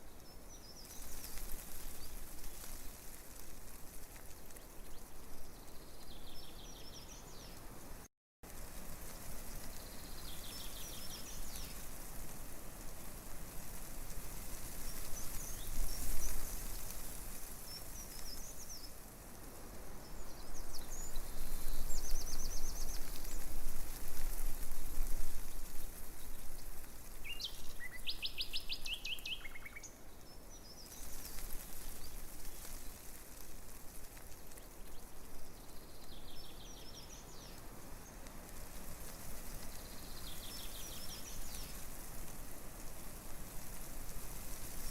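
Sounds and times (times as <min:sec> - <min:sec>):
breeze rustling tree leaves: 0:00.0 - 0:44.9.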